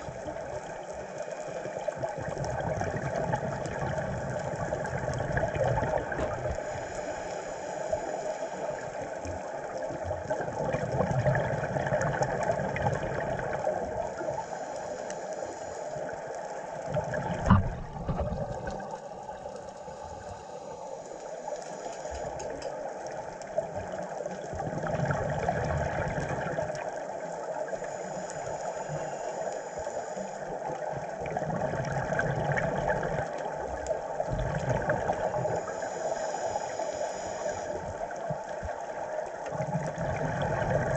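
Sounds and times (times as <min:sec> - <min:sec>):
scuba regulator bubbles gurgling: 0:00.0 - 0:40.9.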